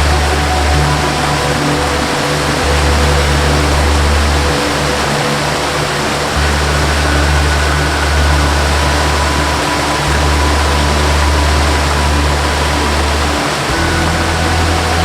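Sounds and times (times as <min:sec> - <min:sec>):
slow ambient melody: 0:00.0 - 0:15.0
waterfall rushing: 0:00.0 - 0:15.0.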